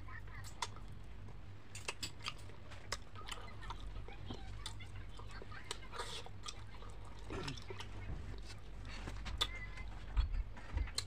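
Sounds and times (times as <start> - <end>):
low steady hum: 0.0 - 11.0
chewing and lip-smacking: 0.3 - 11.0.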